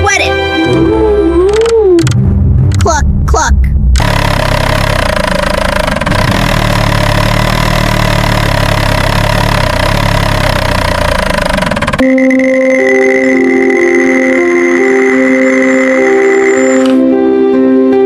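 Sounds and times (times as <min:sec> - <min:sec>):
vehicle engine running: 0:00.8 - 0:17.0.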